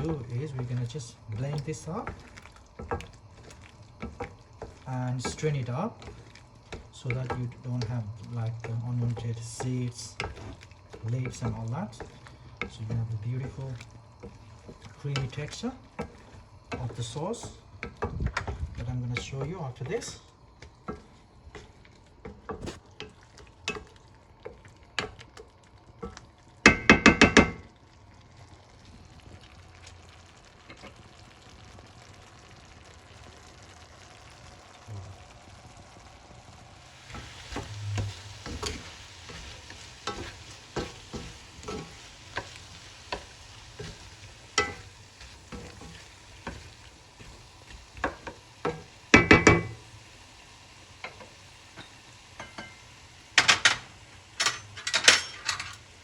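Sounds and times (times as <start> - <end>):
spoon stirring and scraping pot: 0.0 - 27.6, 36.9 - 50.0, 51.0 - 55.9
sauce sizzling: 0.0 - 56.0.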